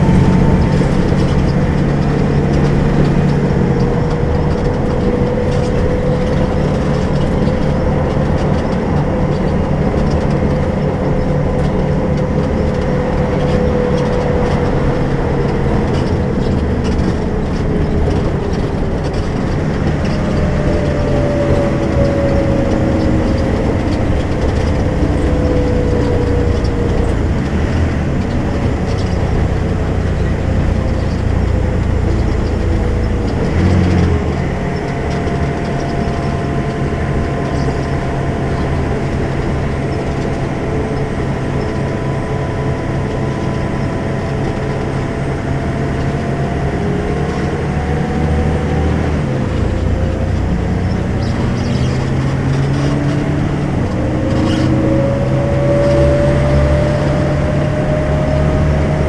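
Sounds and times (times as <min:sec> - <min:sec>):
bus diesel engine drone: 0:00.0 - 0:59.0
whining tone falling in pitch: 0:00.0 - 0:59.0.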